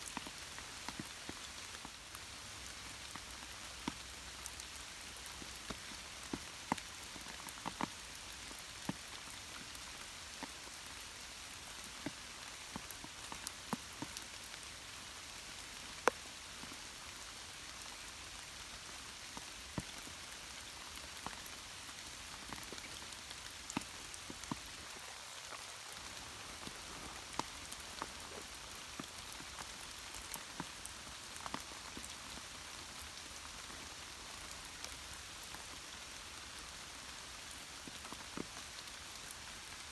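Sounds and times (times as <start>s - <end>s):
raindrops ticking on surfaces: 0.0s - 39.9s
steady rain hiss: 0.0s - 39.9s.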